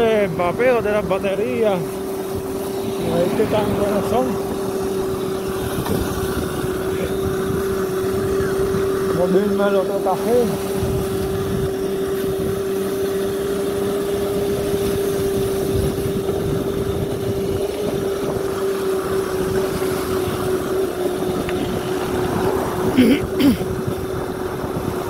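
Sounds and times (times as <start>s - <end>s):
electric motor whine: 0.0s - 25.0s
road rumble: 0.0s - 25.0s
wind: 0.0s - 25.0s.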